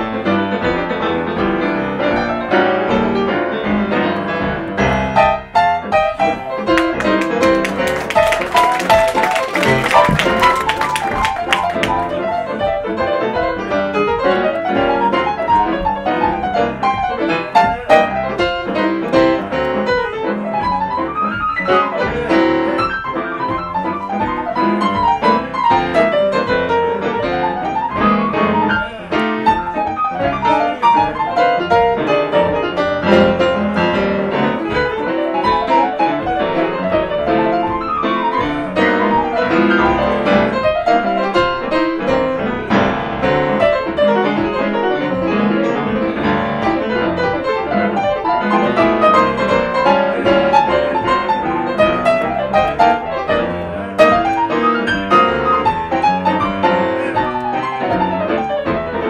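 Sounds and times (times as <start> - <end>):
jazz piano duet: 0.0 - 59.0.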